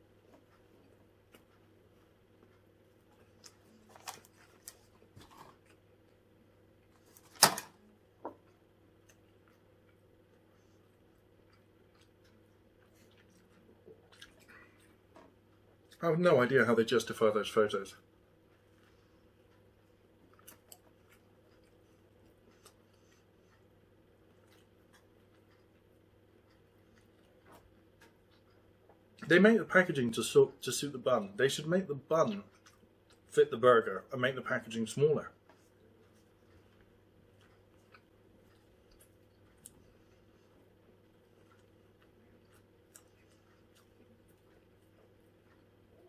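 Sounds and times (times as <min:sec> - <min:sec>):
man chewing: 0:00.0 - 0:07.2, 0:08.4 - 0:16.0, 0:18.2 - 0:29.2, 0:32.3 - 0:33.3, 0:35.4 - 0:46.0
faint steady hum: 0:00.0 - 0:46.0.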